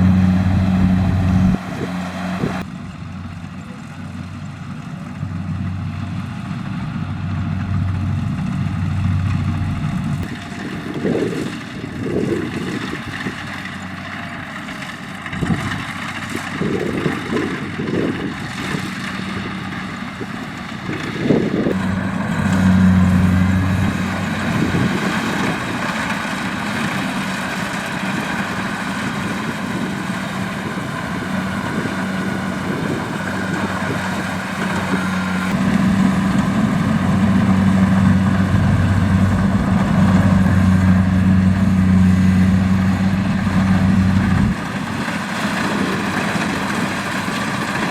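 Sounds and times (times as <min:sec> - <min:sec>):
low rumbles: 0:00.0 - 0:03.6, 0:05.1 - 0:12.6, 0:16.6 - 0:44.9
combine harvester diesel engine: 0:00.0 - 0:47.9.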